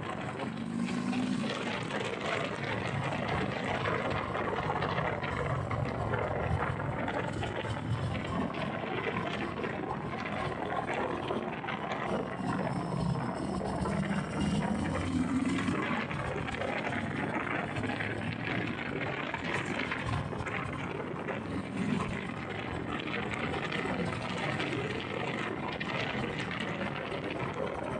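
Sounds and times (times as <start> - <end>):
motorcycle engine running: 0.0 - 10.6, 12.2 - 24.6
wind rush on microphone: 0.0 - 27.9.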